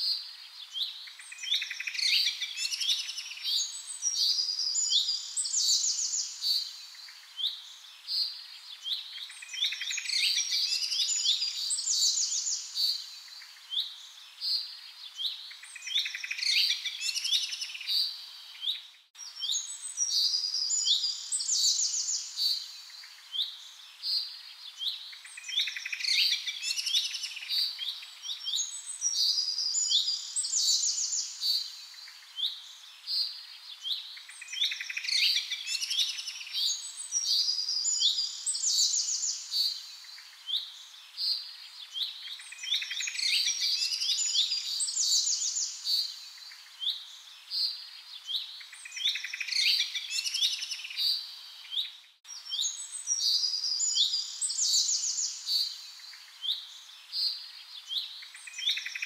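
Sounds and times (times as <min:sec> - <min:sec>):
recorded birdsong chirps and trills: 0:00.0 - 0:59.0.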